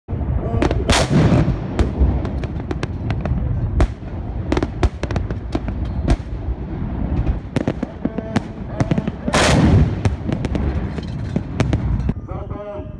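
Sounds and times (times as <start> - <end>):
low rumble: 0.1 - 12.3
fireworks pops and bangs: 0.6 - 12.2.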